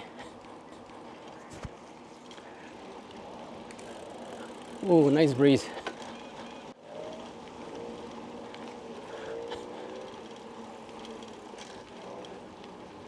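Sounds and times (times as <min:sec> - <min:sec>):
bicycle tyres on pavement: 0:00.0 - 0:13.0.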